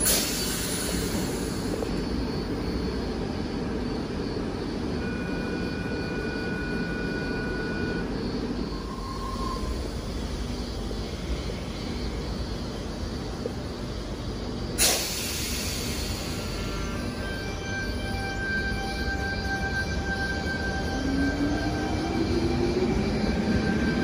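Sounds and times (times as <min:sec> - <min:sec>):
thin high whine: 0:00.0 - 0:24.0
train low running rumble: 0:00.0 - 0:24.0.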